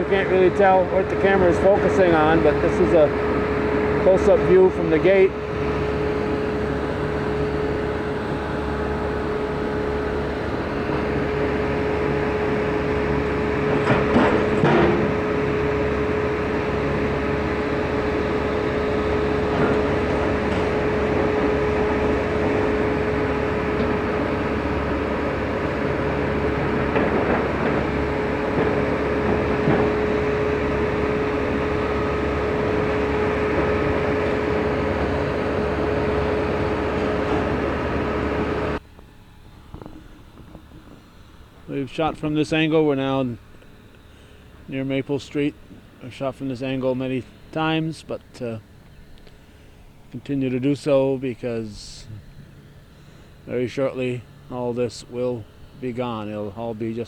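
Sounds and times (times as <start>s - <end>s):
demolition machinery humming: 0.0s - 57.0s.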